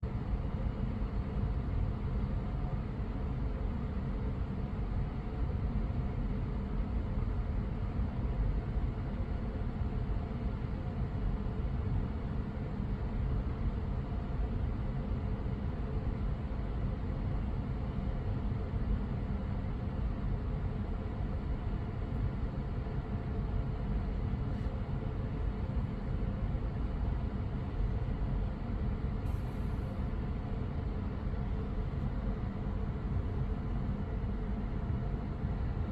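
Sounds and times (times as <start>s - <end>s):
faint hum: 0.0s - 35.9s.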